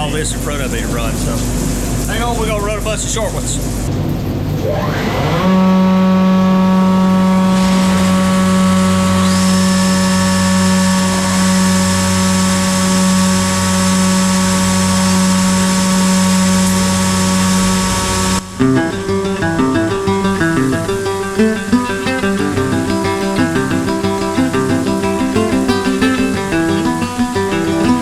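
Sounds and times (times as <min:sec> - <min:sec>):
higher-pitched whine: 0:04.6 - 0:28.0
planer machine whine: 0:04.6 - 0:28.0.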